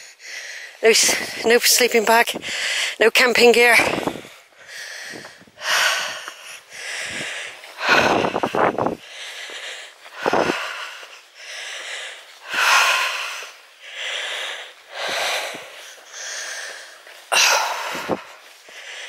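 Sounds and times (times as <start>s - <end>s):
heavy wheezing breathing: 0.0s - 1.4s, 2.4s - 3.0s, 3.8s - 19.0s.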